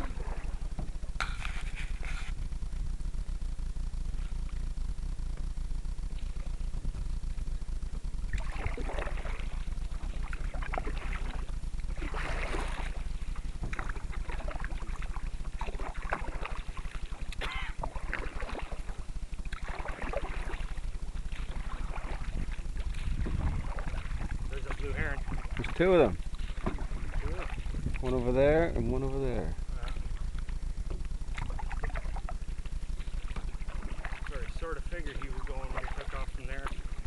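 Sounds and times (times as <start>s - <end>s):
paddle strokes in water: 0.0s - 2.6s, 8.0s - 29.0s, 29.7s - 37.0s
steady low rumble: 0.0s - 37.0s.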